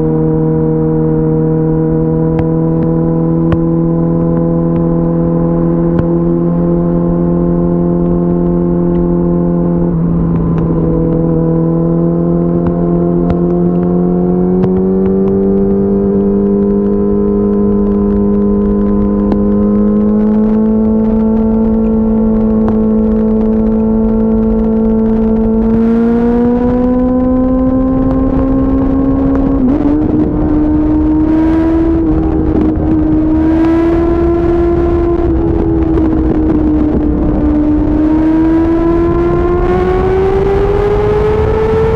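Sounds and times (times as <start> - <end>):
wind on microphone: 0.0 - 41.9.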